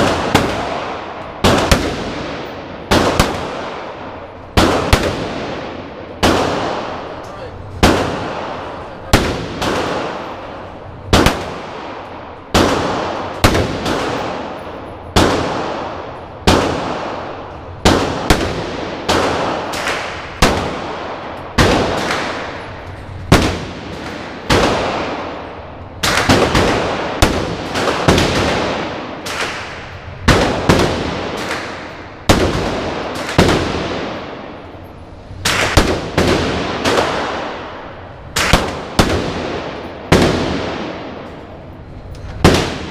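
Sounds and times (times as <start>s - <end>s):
pistol shots echoing indoors: 0.0s - 42.9s.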